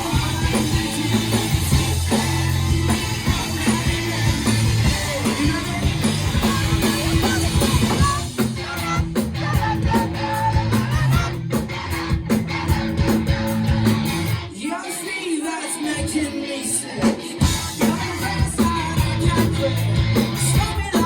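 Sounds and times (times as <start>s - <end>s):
drum kit: 0.0s - 14.5s, 17.0s - 21.0s
bass guitar: 0.0s - 14.6s, 17.0s - 21.0s
electric guitar: 0.0s - 21.0s
person singing: 0.0s - 21.0s.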